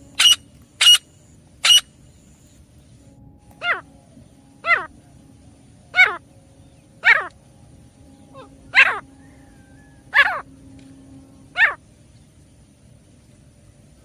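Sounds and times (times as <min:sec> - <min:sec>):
francolin calling: 0:00.0 - 0:12.7
faint steady background tone: 0:00.0 - 0:14.0.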